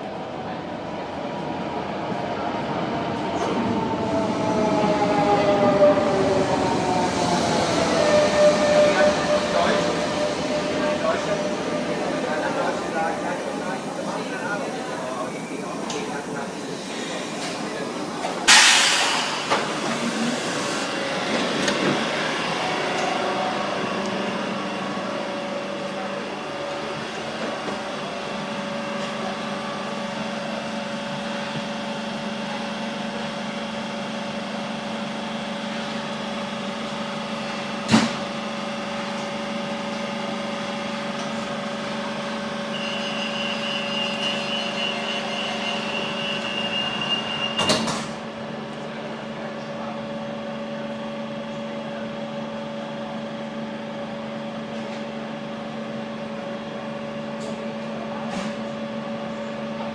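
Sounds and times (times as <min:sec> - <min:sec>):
train hum inside carriage: 0:00.0 - 0:59.9.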